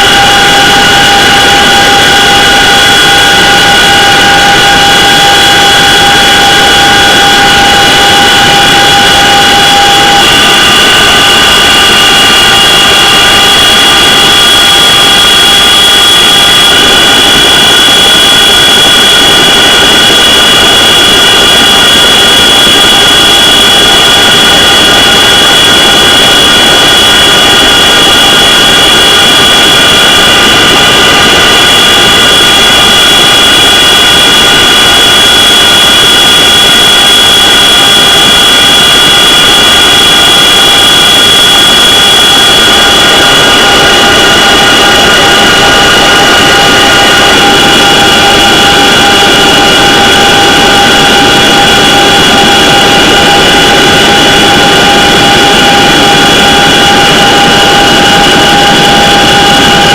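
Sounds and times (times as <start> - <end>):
helicopter engines whining: 0.0 - 59.4.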